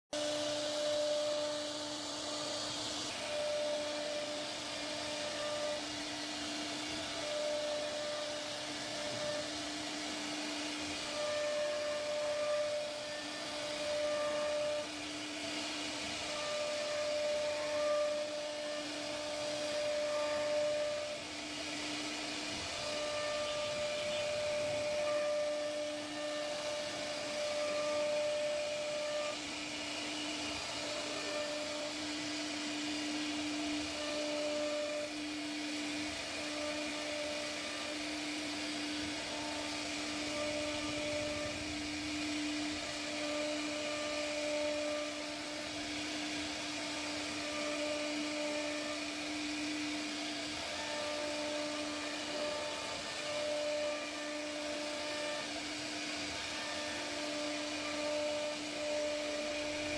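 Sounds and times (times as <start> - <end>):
router spindle whine: 0.1 - 59.9
bit cutting wood: 0.2 - 59.9.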